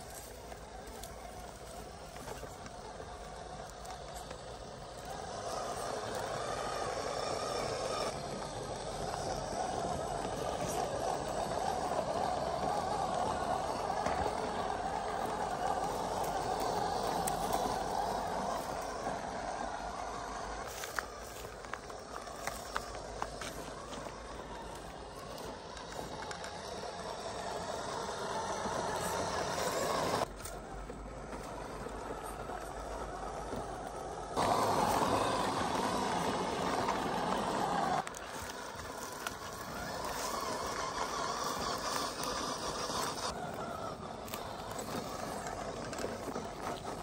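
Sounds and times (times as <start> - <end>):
toy truck electric motor: 0.0 - 47.0
tyres crunching on stones: 0.0 - 47.0.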